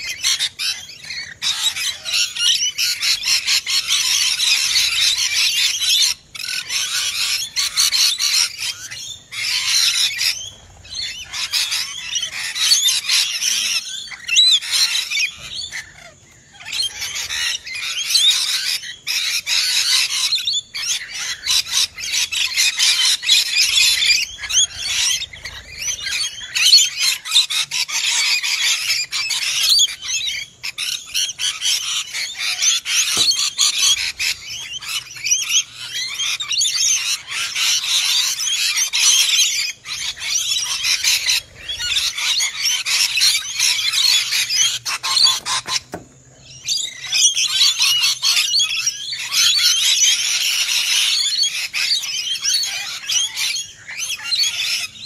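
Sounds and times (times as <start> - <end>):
lorikeets screeching: 0.0 - 55.0.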